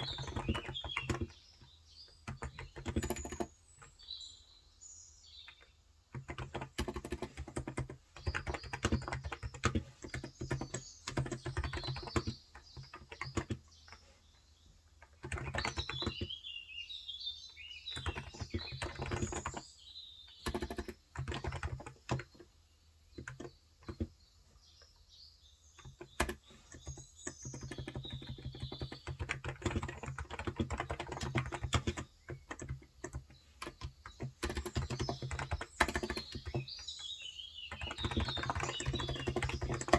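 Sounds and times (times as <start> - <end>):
soft rapid keyboard typing: 0.0 - 4.0, 5.2 - 16.4, 17.8 - 25.0, 25.7 - 39.9
birds chirping: 0.0 - 39.9.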